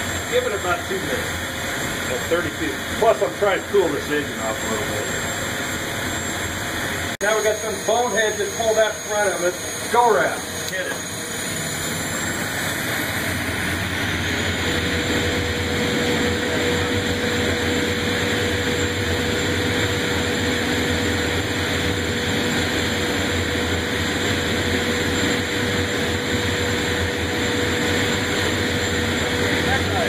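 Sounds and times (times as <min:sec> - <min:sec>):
turbofan engine whine: 0:00.0 - 0:30.0.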